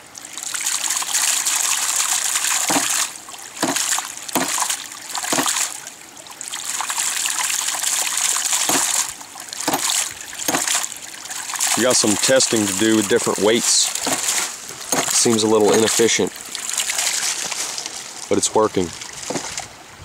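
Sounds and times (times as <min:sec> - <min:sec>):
water gushing and splashing: 0:00.0 - 0:20.0.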